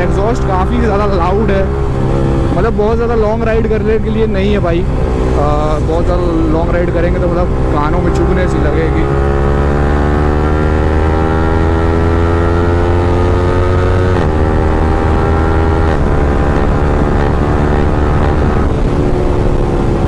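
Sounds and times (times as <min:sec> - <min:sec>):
motorcycle engine running loud: 0:00.0 - 0:20.0.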